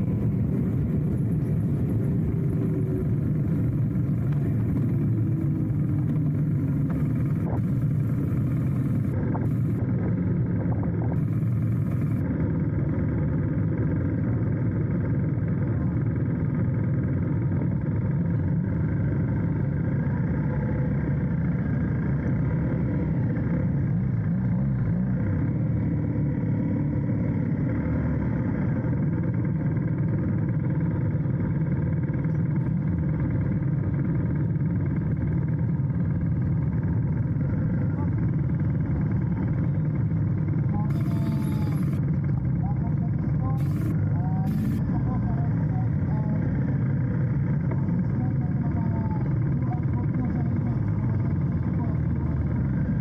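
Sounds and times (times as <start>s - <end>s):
motorcycle engine rumble: 0.0s - 53.0s.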